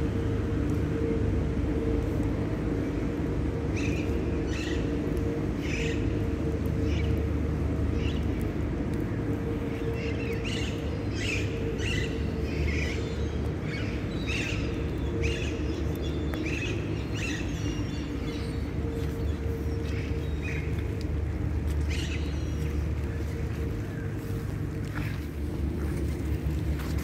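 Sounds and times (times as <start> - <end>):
faint constant hum: 0.0 - 27.0.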